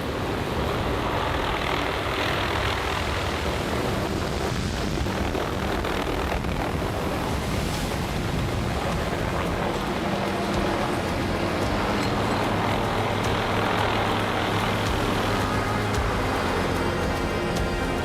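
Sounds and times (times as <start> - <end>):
helicopter engine and rotor: 0.0 - 7.9, 8.5 - 18.0.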